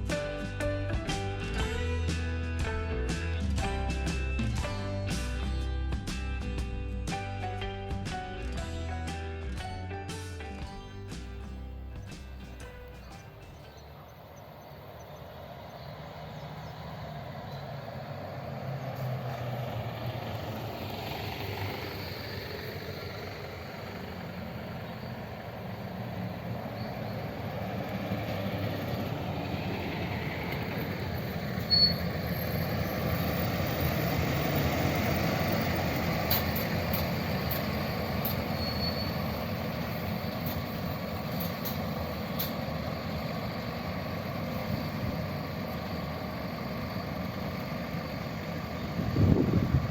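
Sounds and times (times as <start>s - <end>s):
bus engine driving by: 0.0s - 49.9s.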